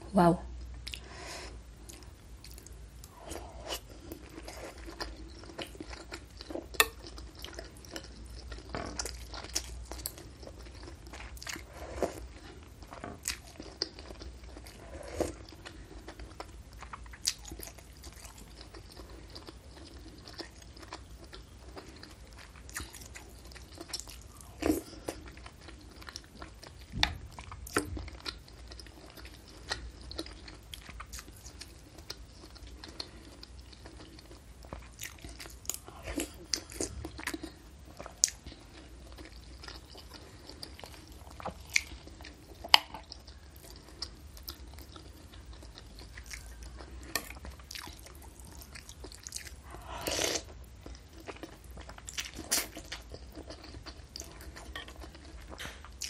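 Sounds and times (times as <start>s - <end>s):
chewing food: 1.8s - 56.0s.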